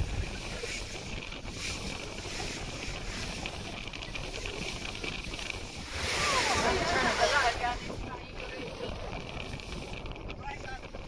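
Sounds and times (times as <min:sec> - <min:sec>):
water noise from motorboat: 0:00.0 - 0:11.0
wind rumbling on microphone: 0:00.0 - 0:11.0.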